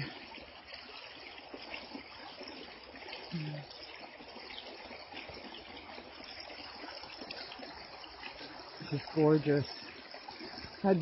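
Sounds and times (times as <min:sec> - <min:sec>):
creek water running over rocks: 0:00.0 - 0:11.0.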